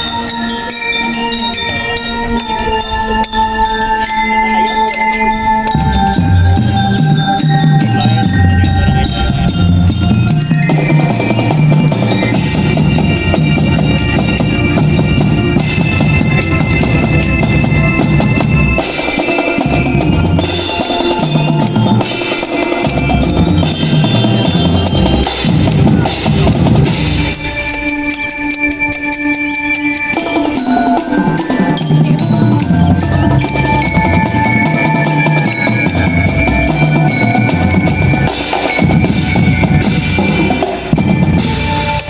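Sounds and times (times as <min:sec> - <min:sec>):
marching band playing: 0:04.0 - 0:42.0.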